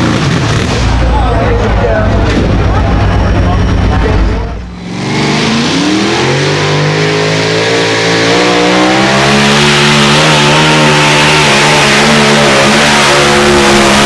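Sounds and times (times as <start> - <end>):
tractor engine at high revs: 0.0 - 14.0.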